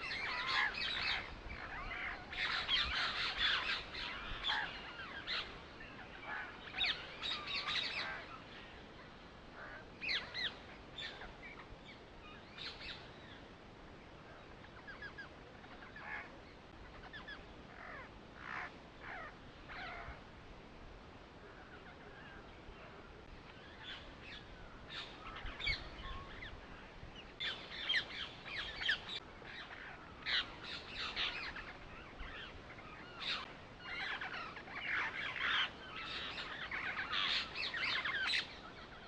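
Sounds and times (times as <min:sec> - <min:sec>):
birds chirping and calling: 0:00.0 - 0:13.6, 0:14.3 - 0:20.2, 0:21.4 - 0:39.0.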